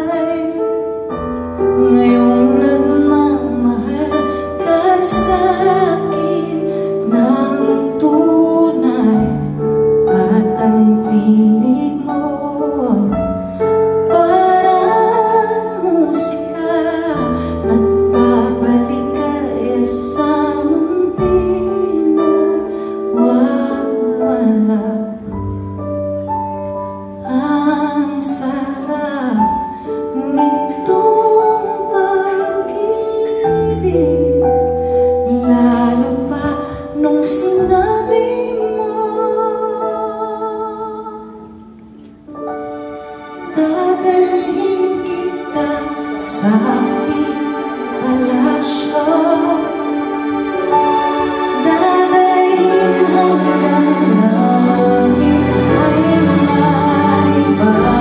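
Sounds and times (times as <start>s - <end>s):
piano accompaniment: 0.0s - 58.0s
woman singing with vibrato: 1.7s - 13.2s, 14.0s - 25.2s, 27.2s - 41.6s, 43.2s - 58.0s.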